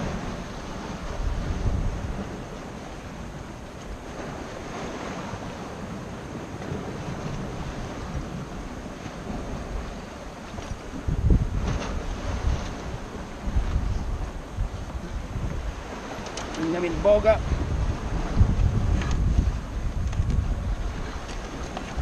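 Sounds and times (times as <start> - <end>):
surf washing against rocks: 0.0 - 22.0
wind buffeting microphone: 0.0 - 22.0.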